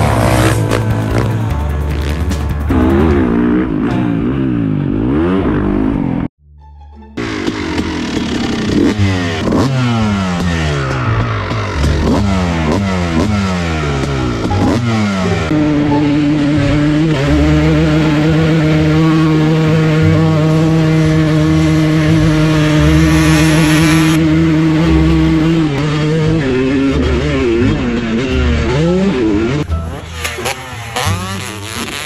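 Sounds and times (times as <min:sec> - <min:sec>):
dirt bike engine revving: 0:00.0 - 0:06.3, 0:07.2 - 0:32.0.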